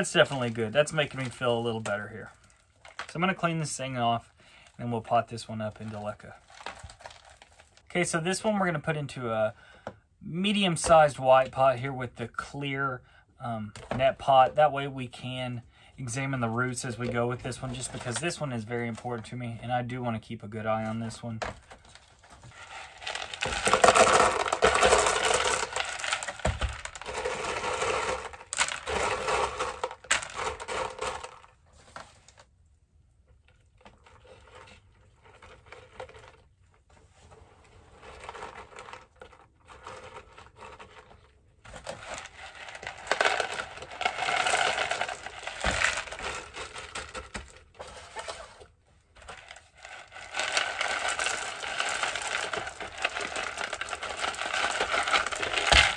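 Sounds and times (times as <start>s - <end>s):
clay pebbles rattling into plastic pot: 0.0s - 9.5s, 13.6s - 32.6s, 33.3s - 55.9s.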